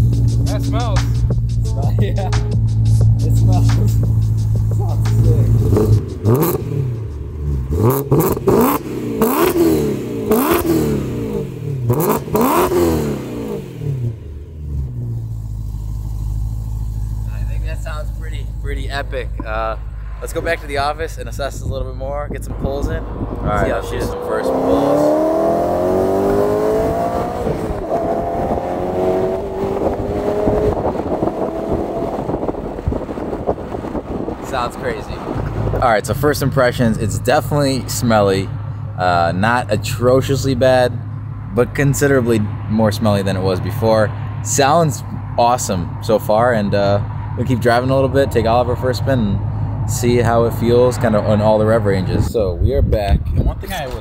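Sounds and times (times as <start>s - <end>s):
car engine revving: 0.0s - 52.3s.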